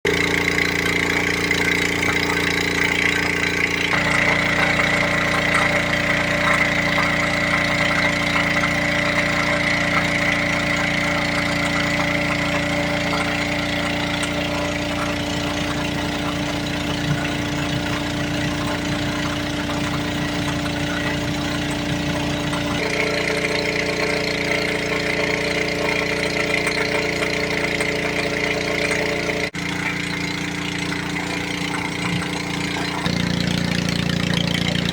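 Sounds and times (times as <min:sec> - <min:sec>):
small petrol pump engine running: 0:00.0 - 0:34.9.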